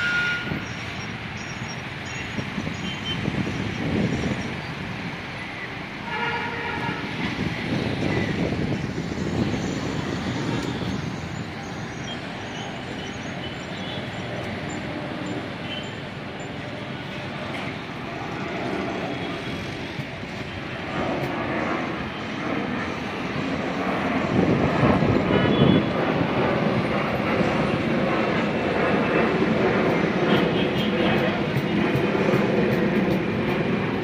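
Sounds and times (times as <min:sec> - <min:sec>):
busy road traffic: 0:00.0 - 0:34.0.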